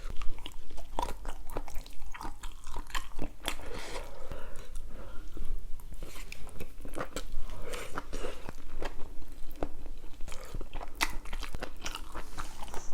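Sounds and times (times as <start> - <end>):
chewing noodles: 0.0 - 12.9.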